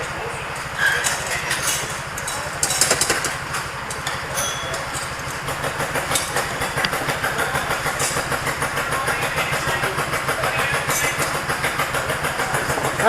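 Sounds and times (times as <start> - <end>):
small petrol engine idling: 0.0 - 13.0.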